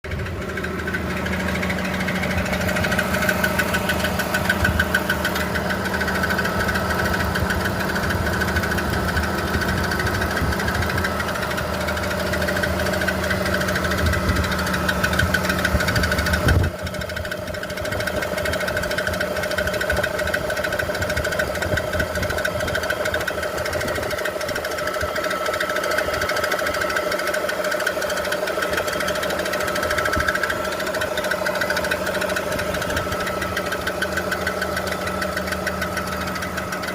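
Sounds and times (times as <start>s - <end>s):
car engine running: 0.0s - 36.9s
rhythmic engine knocking: 0.0s - 36.9s.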